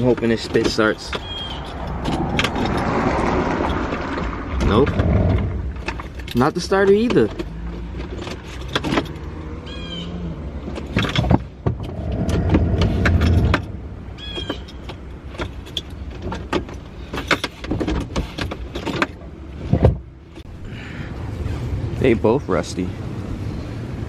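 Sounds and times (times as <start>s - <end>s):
tools clicking and rattling: 0.0s - 9.4s, 10.6s - 20.5s.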